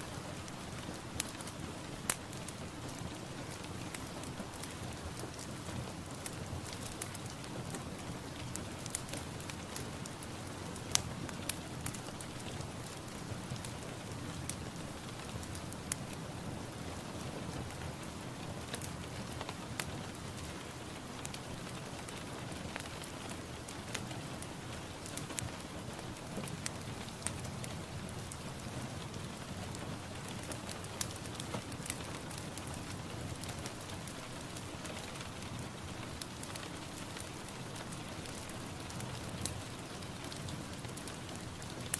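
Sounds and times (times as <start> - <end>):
rain pattering: 0.0 - 41.9.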